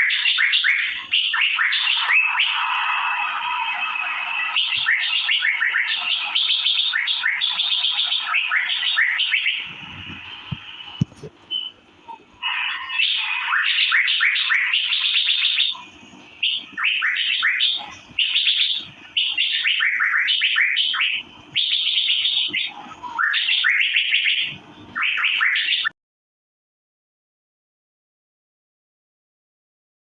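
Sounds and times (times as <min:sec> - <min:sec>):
bird chirping song: 0:00.0 - 0:25.9.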